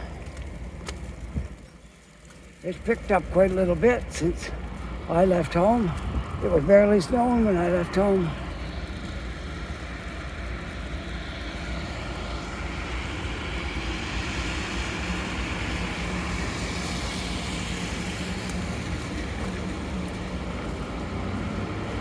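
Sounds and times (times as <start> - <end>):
faint engine hum: 0.0 - 22.0
tyre hiss on slushy road: 2.0 - 22.0.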